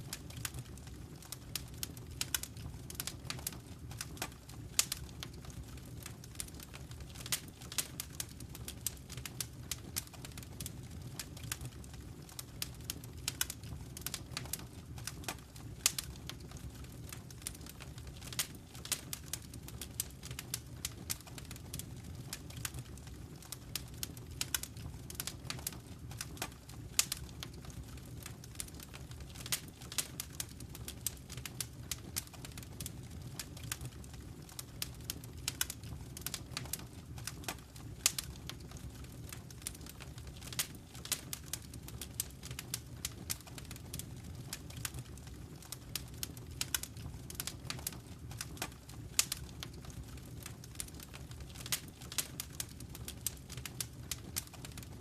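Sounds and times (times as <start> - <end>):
low rumble of burning fire: 0.0 - 55.0
wood fire crackling and snapping: 0.0 - 55.0.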